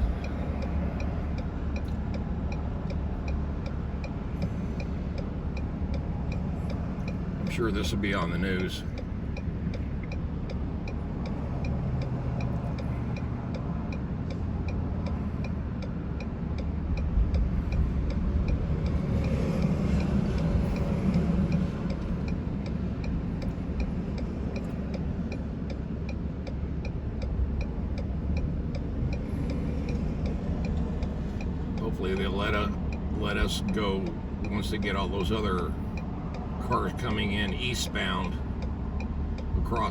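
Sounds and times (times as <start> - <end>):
traffic: 0.0 - 39.9
vehicle idling rumble: 0.0 - 39.9.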